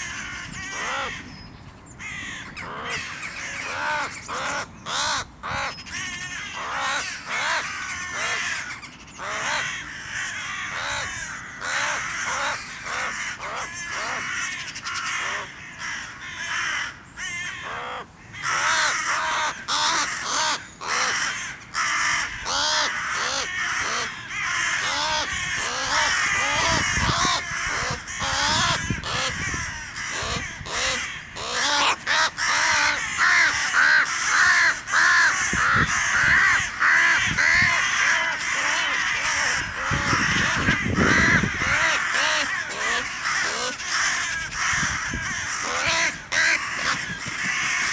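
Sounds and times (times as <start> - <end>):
crows cawing in alarm: 0.0 - 1.4, 2.0 - 47.9.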